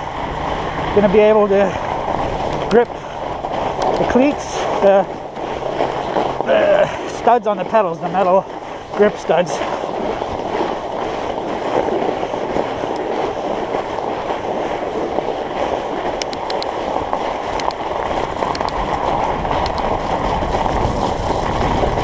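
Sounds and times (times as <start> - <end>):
fat tyres rolling over snow: 0.0 - 22.0
wind on microphone: 0.0 - 22.0.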